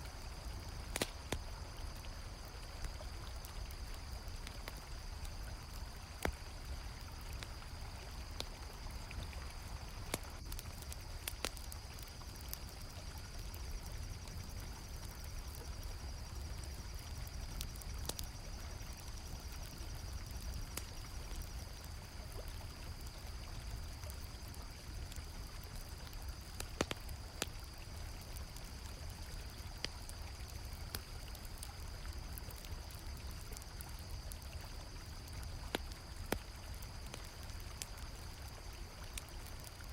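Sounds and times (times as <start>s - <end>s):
campfire crackling: 0.0s - 39.9s
crickets trilling: 0.0s - 39.9s.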